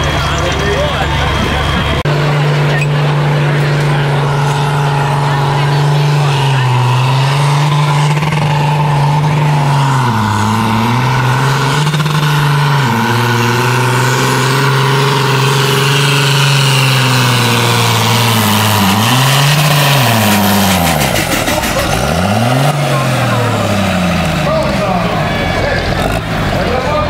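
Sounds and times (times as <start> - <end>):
tractor diesel engine running hard: 0.0 - 27.0.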